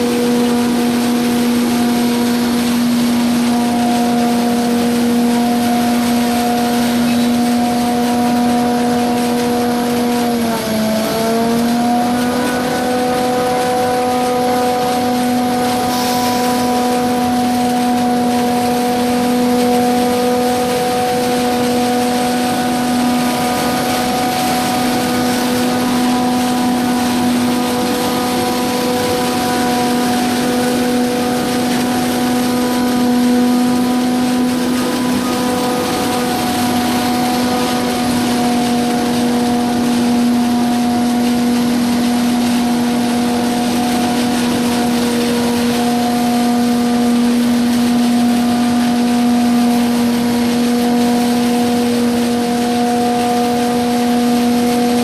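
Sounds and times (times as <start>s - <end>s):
harvester machine drone: 0.0s - 55.0s.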